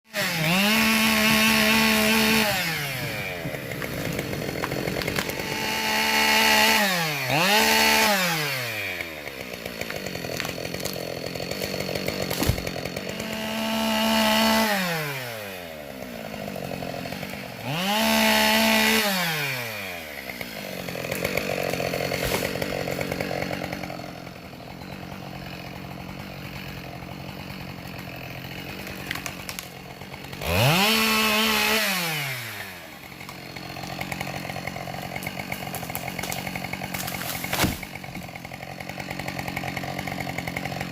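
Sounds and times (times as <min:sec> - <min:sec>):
chainsaw running: 0:00.1 - 0:40.9.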